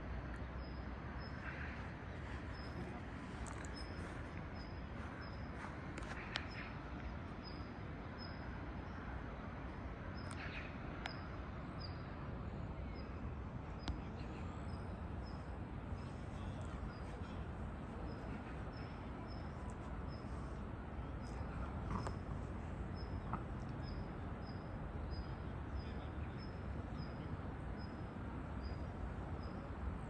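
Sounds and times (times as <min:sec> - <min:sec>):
distant city traffic hum: 0:00.0 - 0:30.0.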